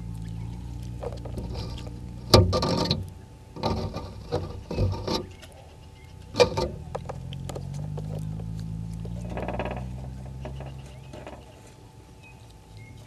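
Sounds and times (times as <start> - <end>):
scratchy scraping rustles: 0.0 - 13.0.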